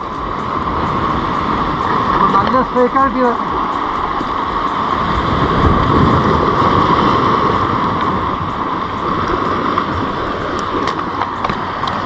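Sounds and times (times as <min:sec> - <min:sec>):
constant high hum: 0:00.0 - 0:12.0
sea noise: 0:00.0 - 0:12.0
wind buffeting microphone: 0:00.0 - 0:12.0.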